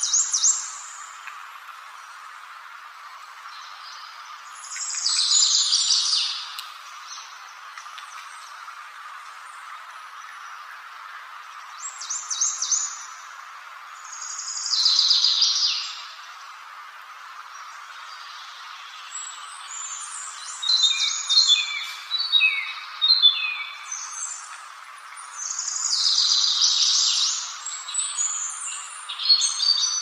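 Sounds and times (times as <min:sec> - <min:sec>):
songbird singing: 0:00.0 - 0:30.0
steady background hiss: 0:00.0 - 0:30.0.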